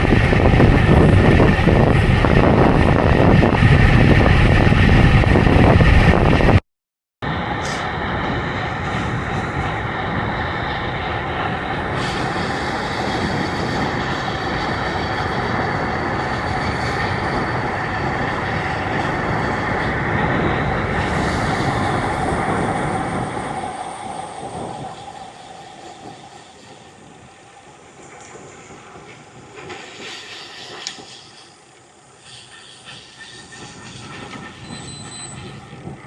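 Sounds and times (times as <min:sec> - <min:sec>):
train running on rails: 0:00.0 - 0:06.6, 0:07.2 - 0:36.0.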